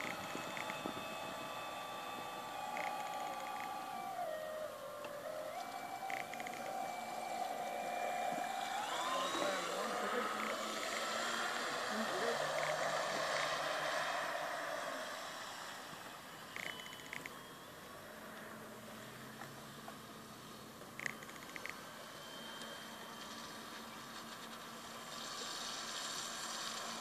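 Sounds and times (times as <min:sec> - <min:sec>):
model boat motor whining: 0:00.0 - 0:27.0.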